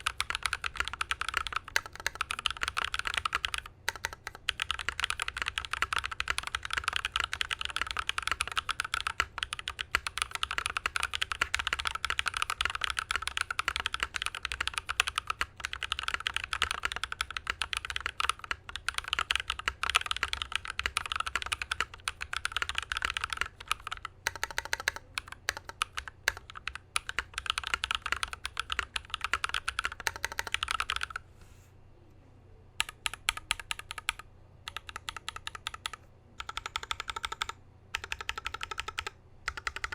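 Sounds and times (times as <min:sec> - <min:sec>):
mechanical keyboard typing: 0:00.0 - 0:31.2, 0:32.8 - 0:39.9.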